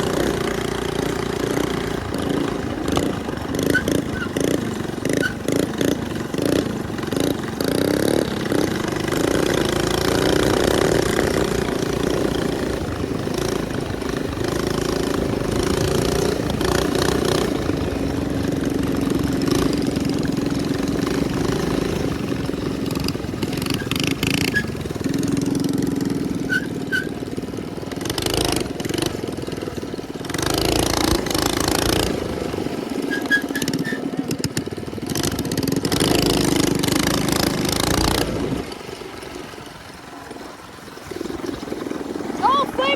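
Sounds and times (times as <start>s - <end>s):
minibike engine revving: 0.0s - 42.9s.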